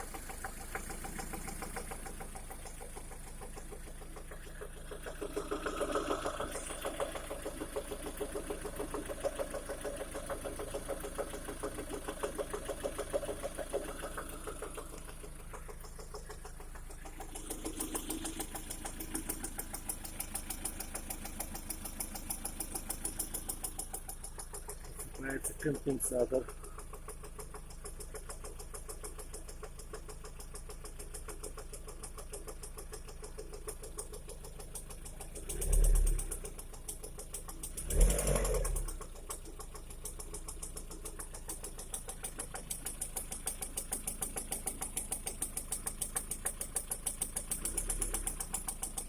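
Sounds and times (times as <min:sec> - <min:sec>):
car engine knocking: 0:00.0 - 0:49.0.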